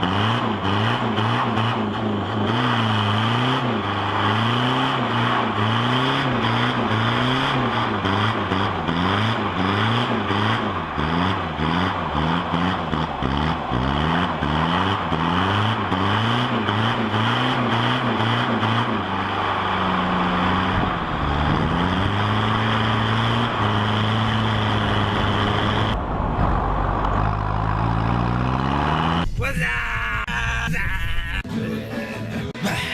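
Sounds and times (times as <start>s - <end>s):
diesel engine revving: 0.0s - 29.4s.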